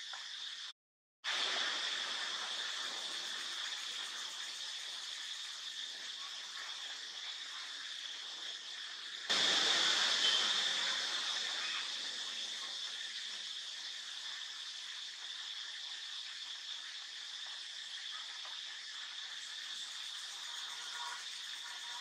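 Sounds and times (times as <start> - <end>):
outdoor hiss with high-pitched edge: 0.0 - 22.0.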